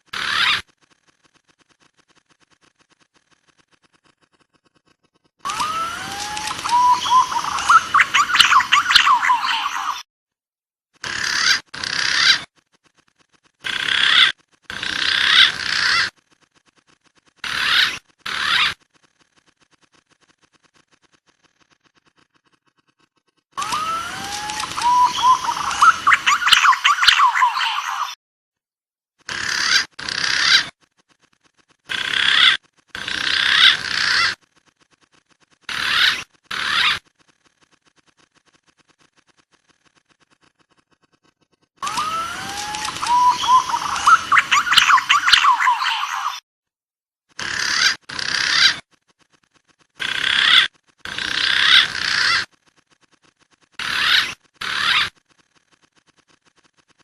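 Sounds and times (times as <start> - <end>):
harsh warbling pigeon calls: 0.0 - 10.0, 11.0 - 28.2, 29.2 - 46.4, 47.3 - 57.0.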